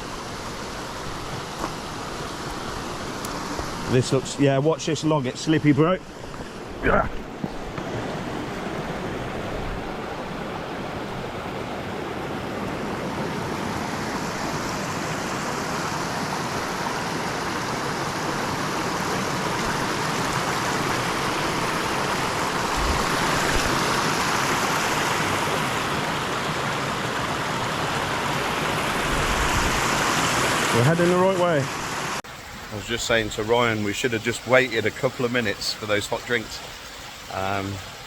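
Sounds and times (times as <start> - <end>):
rushing stream water: 0.0 - 38.0.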